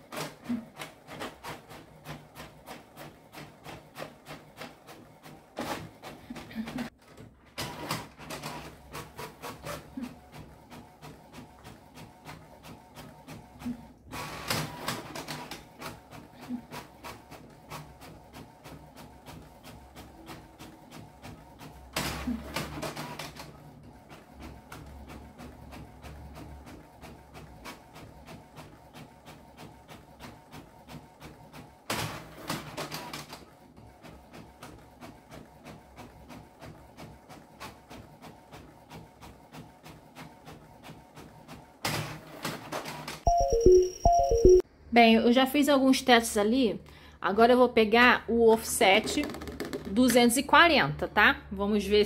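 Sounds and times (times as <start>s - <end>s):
paper feed rushing: 0.0s - 43.2s
printer clicking and whirring: 0.0s - 43.4s.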